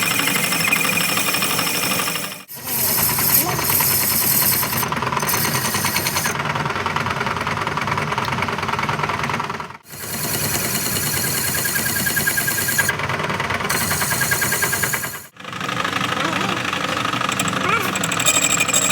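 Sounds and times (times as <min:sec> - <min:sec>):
workshop machine running: 0:00.0 - 0:18.9.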